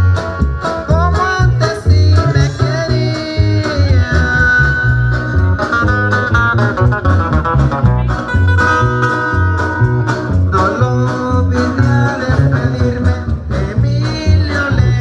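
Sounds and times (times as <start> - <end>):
dance music with lead guitar: 0.0 - 15.0.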